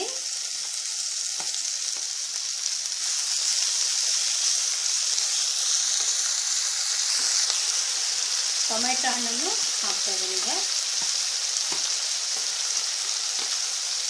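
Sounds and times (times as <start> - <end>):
leaves sizzling in hot oil: 0.0 - 14.0.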